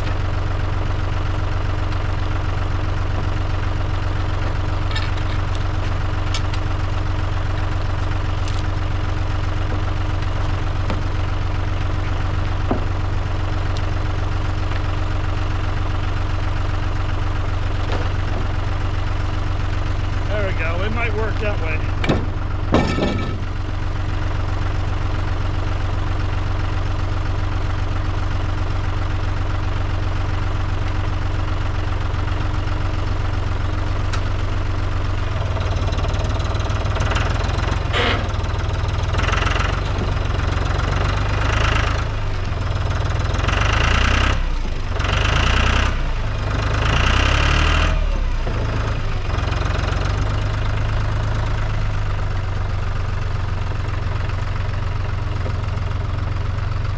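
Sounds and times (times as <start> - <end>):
tractor engine labouring: 0.0 - 56.9.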